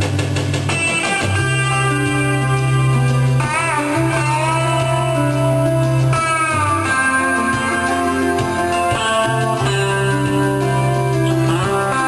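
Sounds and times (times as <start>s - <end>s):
guitar instrumental music: 0.0s - 12.0s.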